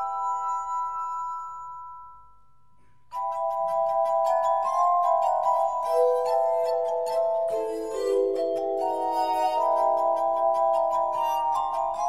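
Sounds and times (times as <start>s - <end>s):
glass harp ringing notes: 0.0s - 12.0s.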